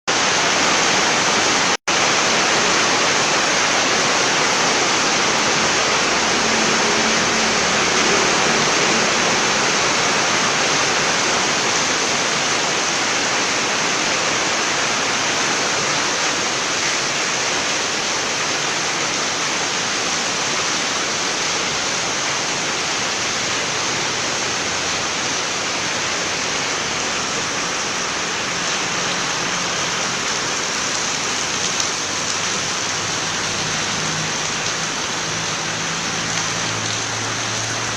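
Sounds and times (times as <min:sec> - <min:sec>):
heavy rain pouring: 0:00.1 - 0:37.9.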